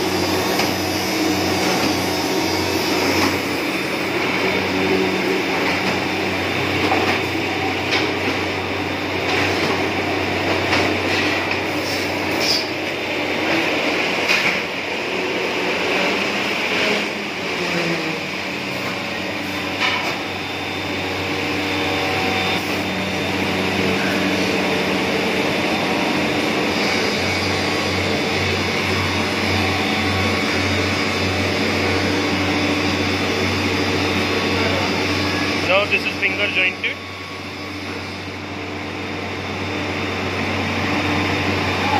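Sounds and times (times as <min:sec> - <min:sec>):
machinery din and low hum: 0:00.0 - 0:41.9.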